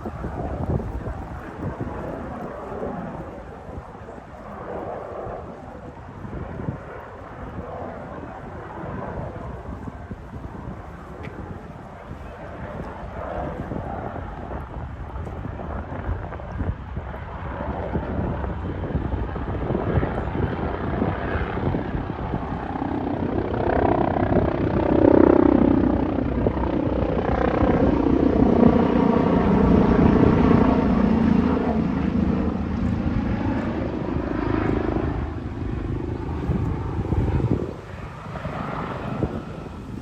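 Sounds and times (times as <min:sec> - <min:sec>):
helicopter flying overhead: 0:00.0 - 0:40.0.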